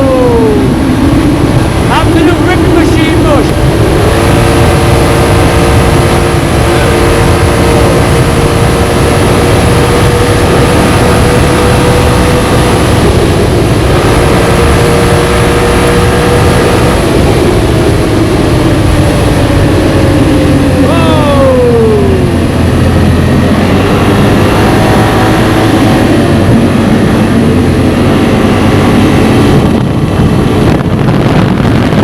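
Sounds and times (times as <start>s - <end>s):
atv engine running hard: 0.0s - 32.0s
heavy low rumble: 0.0s - 32.0s.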